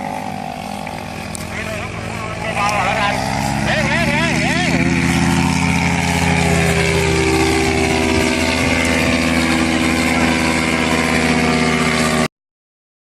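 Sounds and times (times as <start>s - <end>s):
paramotor engine and propeller: 0.0s - 12.3s.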